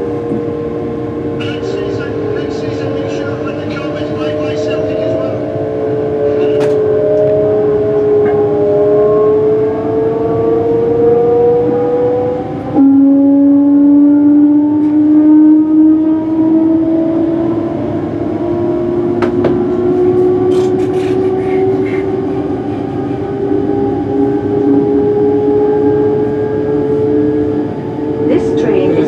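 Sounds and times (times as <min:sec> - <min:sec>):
train traction motors whining: 0:00.0 - 0:29.0.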